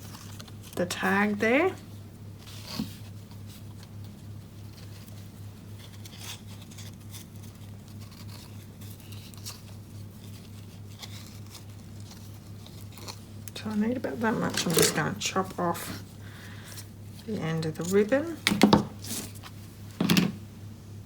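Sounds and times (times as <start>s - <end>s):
ribbon and card rustling: 0.0s - 19.8s
low electrical hum: 0.0s - 21.0s.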